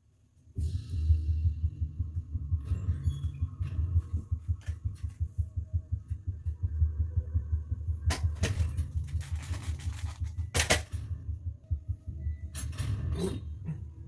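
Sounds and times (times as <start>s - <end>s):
fast low bass pulse: 0.6s - 12.6s.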